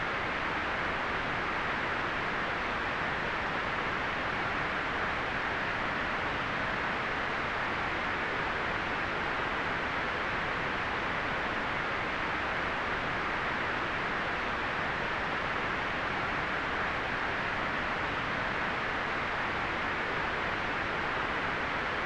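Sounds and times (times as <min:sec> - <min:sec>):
white noise hiss: 0:00.0 - 0:22.0.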